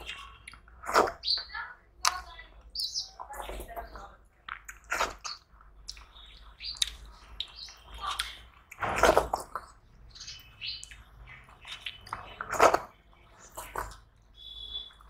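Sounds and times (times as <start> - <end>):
fingers squelching wet food: 0.0 - 15.0.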